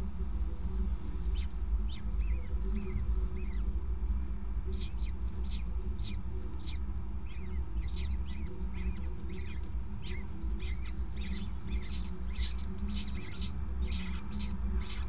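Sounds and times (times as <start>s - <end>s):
steady low rumble: 0.0s - 15.0s
chicks giving high begging calls: 1.3s - 3.6s, 4.7s - 15.0s.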